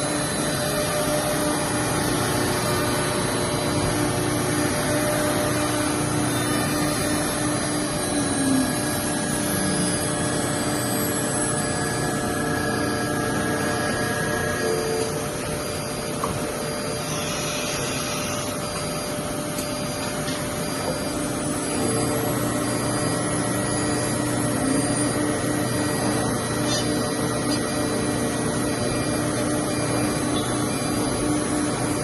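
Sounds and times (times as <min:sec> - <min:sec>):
faint high whine: 0:00.0 - 0:32.0
wood router machine hum: 0:00.0 - 0:32.0.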